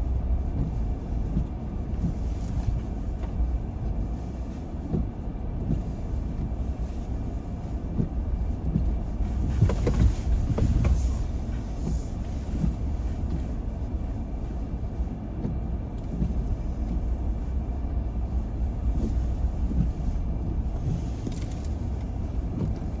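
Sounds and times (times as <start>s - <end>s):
car tyres and engine rumble: 0.0s - 23.0s.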